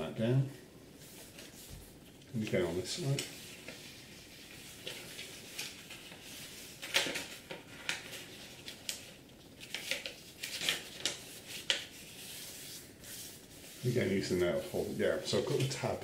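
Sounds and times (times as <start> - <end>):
paper being folded and creased: 1.0 - 16.0.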